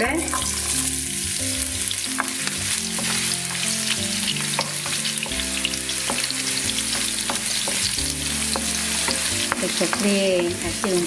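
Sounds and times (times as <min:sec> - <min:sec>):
vegetables sizzling in oil: 0:00.0 - 0:11.0
wooden spoon stirring: 0:01.6 - 0:11.0.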